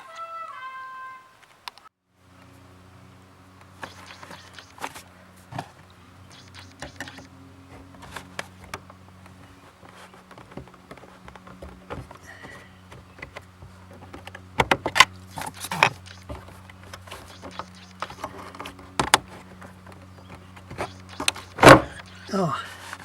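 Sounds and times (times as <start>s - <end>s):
parts clicking and rattling by hand: 3.6s - 23.0s.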